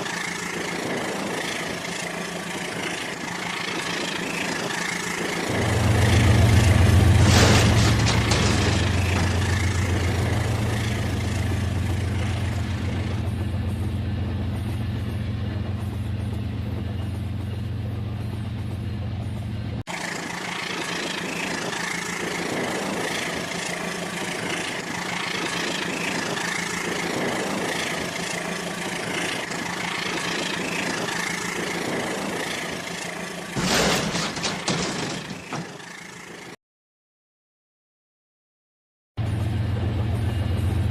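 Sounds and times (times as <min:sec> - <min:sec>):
low hum: 0:01.3 - 0:35.9.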